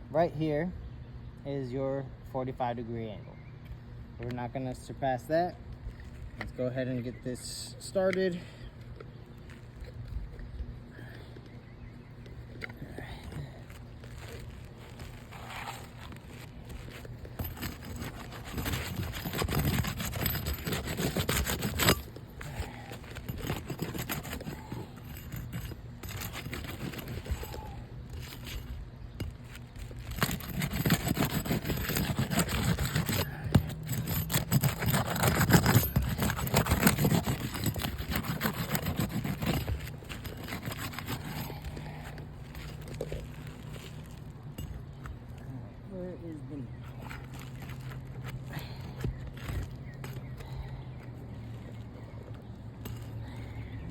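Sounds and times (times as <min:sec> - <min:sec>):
roof shingle crackling and scraping: 0:05.7 - 0:53.9.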